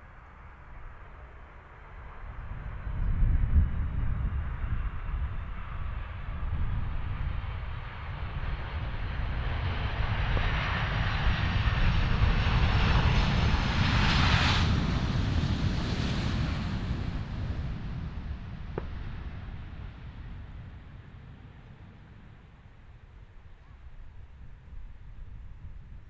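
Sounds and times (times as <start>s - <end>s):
jet engines passing by: 0.0s - 26.0s.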